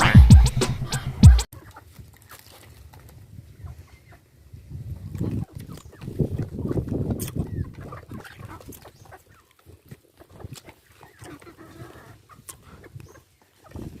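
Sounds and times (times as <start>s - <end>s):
chickens clucking: 0.0s - 4.4s, 5.0s - 14.0s.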